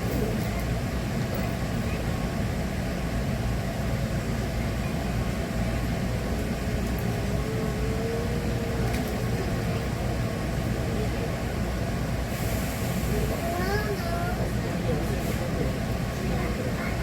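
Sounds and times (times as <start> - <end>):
train car rumble and hiss: 0.0 - 17.0.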